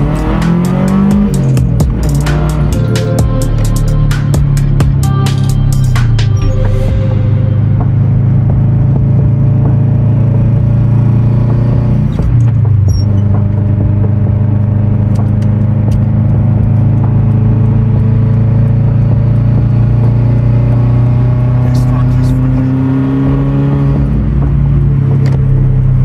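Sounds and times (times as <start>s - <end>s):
car engine droning: 0.0s - 26.0s
road noise: 0.0s - 26.0s.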